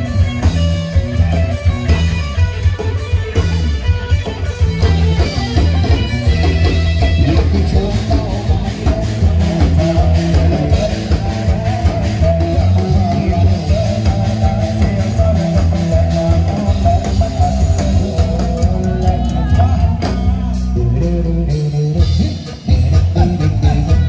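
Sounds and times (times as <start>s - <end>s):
band playing: 0.0s - 24.0s
guitar: 0.0s - 24.0s.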